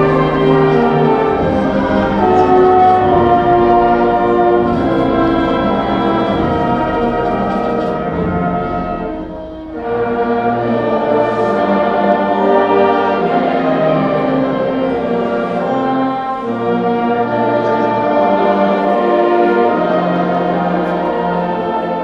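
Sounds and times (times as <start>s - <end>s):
band playing sustained chords: 0.0s - 22.0s.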